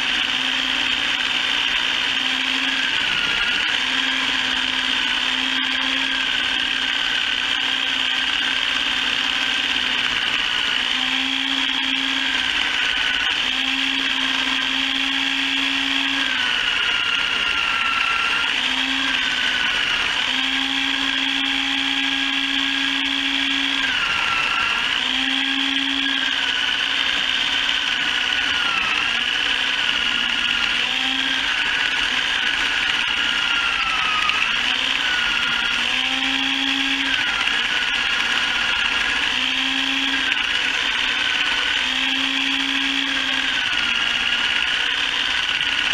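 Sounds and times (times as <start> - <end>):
chicken plucker motor whine: 0.0 - 45.9.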